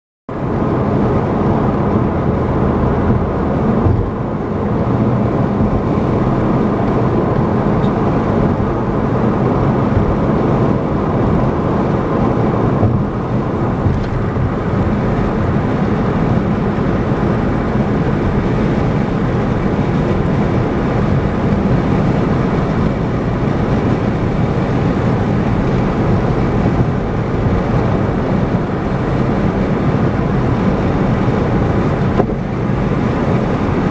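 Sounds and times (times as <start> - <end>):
low engine hum: 0.3 - 33.9
road and tyre noise: 0.3 - 33.9.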